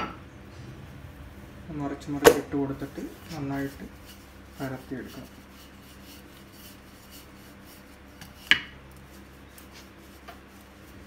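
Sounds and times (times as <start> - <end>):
rubbing and patting dough: 1.7 - 11.0.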